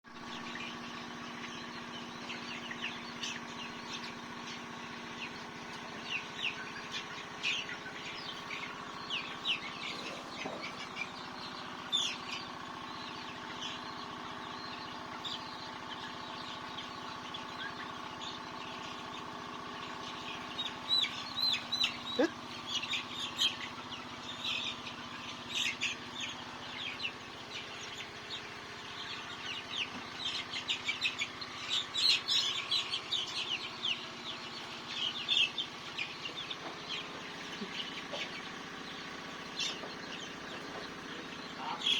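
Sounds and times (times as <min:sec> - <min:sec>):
chickens peeping: 0:00.1 - 0:41.9.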